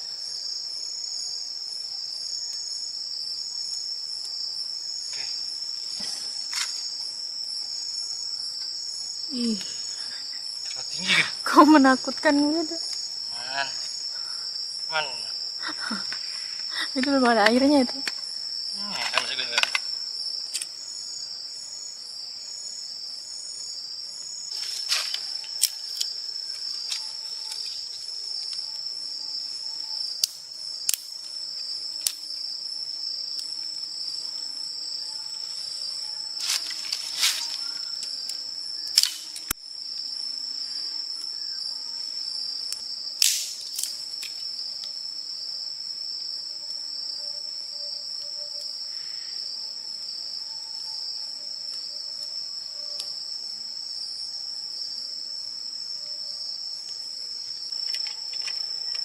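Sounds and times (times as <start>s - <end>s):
insects chorus: 0.0s - 59.0s.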